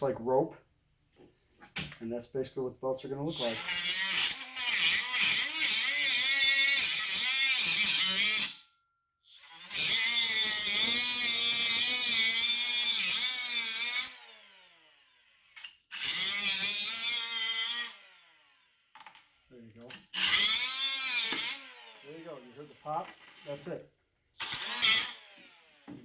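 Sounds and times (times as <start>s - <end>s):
power tool cutting rubber tire: 3.3s - 8.6s, 9.3s - 26.0s.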